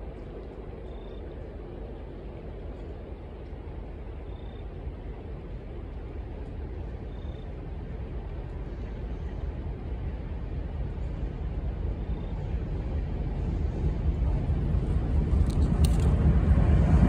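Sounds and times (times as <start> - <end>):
diesel train rumble: 0.0 - 17.0.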